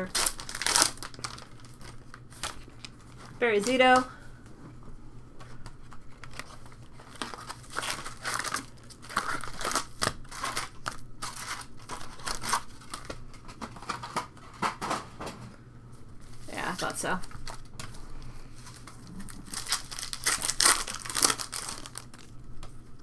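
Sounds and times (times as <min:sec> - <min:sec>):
foil wrappers crinkling: 0:00.0 - 0:04.2, 0:05.4 - 0:14.8, 0:16.2 - 0:23.0.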